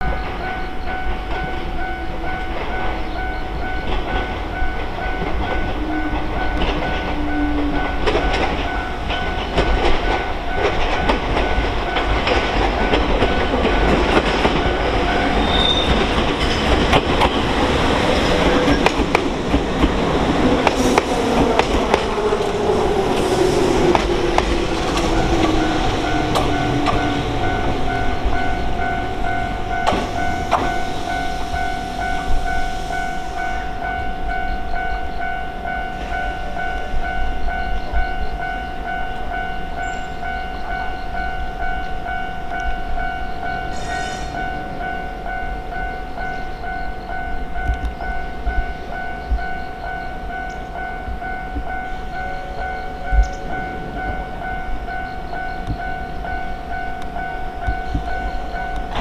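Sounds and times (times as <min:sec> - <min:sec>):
rail vehicle wheel clatter: 0:00.0 - 0:59.0.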